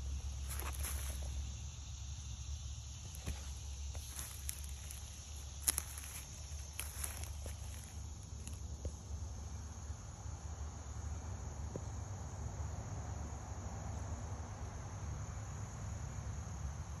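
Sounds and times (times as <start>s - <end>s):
crickets chirping chorus: 0.0s - 17.0s.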